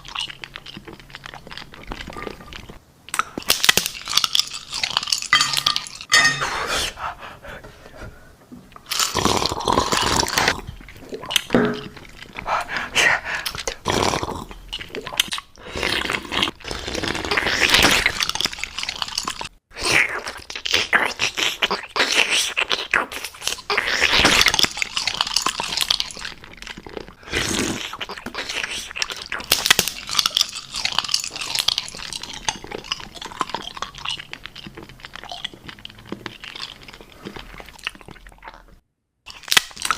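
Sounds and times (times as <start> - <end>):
crunchy food chewing: 0.0 - 6.1, 13.4 - 39.9.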